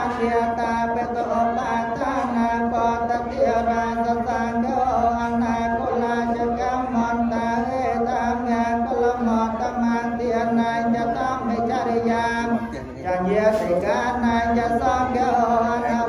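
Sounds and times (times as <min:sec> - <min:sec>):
monks chanting: 0:00.0 - 0:16.0.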